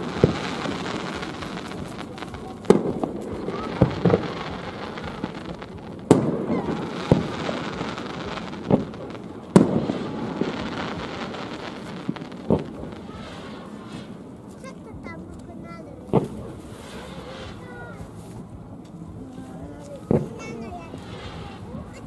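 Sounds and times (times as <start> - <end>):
firework pops: 0.0 - 18.0, 20.0 - 21.8
firework booms with rolling echo: 0.0 - 18.1, 20.0 - 22.0.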